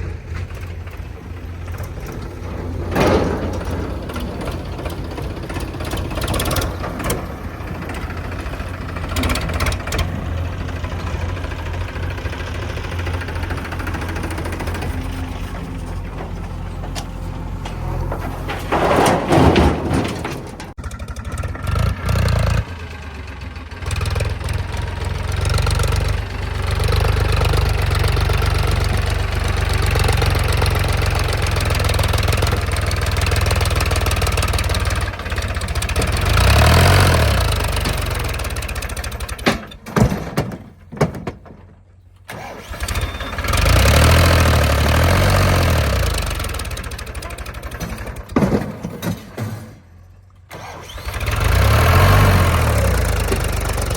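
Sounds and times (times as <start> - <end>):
diesel engines running: 0.0 - 53.9.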